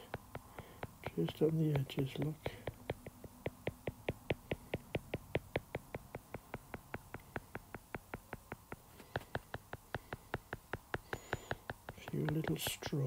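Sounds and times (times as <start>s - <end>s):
stylus tapping on glass screen: 0.0s - 13.0s.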